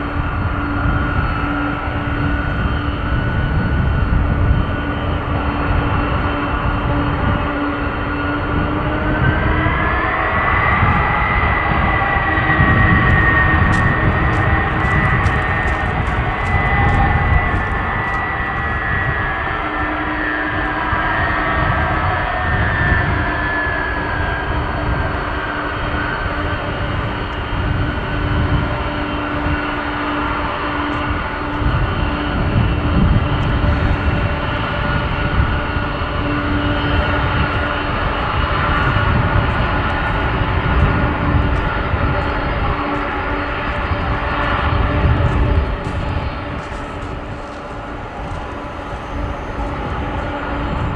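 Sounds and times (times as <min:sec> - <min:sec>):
high jet engine whine: 0:00.0 - 0:50.9
jet engines rumbling: 0:00.0 - 0:50.9.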